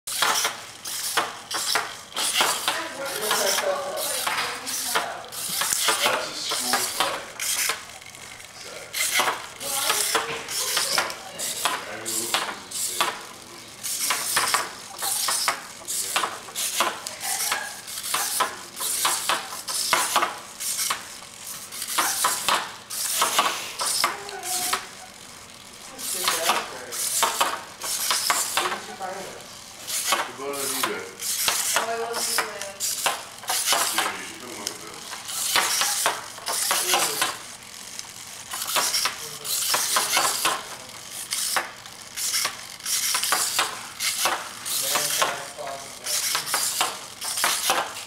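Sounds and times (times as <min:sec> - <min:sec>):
robot feet tapping and scraping: 0:00.1 - 0:07.8, 0:09.0 - 0:24.8, 0:26.0 - 0:28.9, 0:29.9 - 0:37.4, 0:38.5 - 0:45.4, 0:46.2 - 0:48.0
robot servos whirring: 0:00.1 - 0:08.3, 0:08.9 - 0:48.0.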